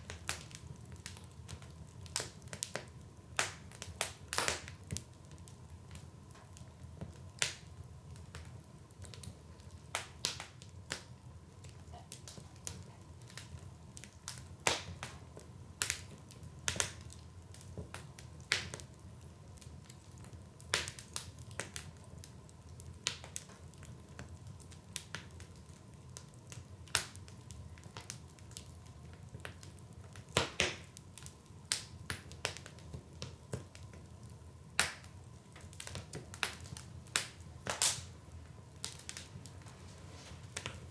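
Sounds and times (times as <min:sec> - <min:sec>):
fire low rumble: 0:00.0 - 0:40.9
wood fire crackling and popping: 0:00.0 - 0:40.9.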